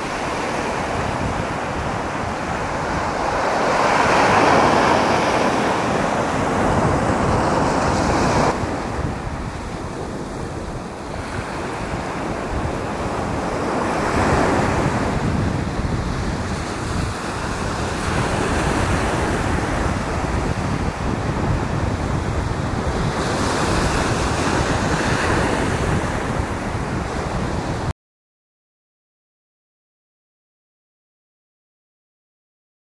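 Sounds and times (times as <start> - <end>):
small waves breaking on beach: 0.0 - 27.9
wind rumbling on microphone: 0.0 - 27.9.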